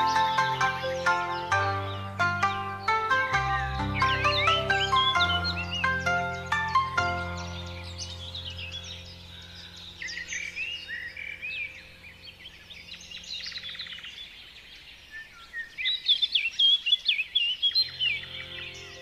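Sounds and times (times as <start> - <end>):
birds chirping and singing: 0.0 - 19.0
faint sustained music tones: 0.0 - 19.0.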